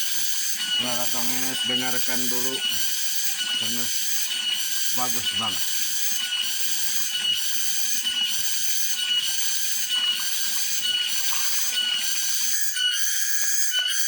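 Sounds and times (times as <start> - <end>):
cicadas buzzing: 0.0 - 13.4.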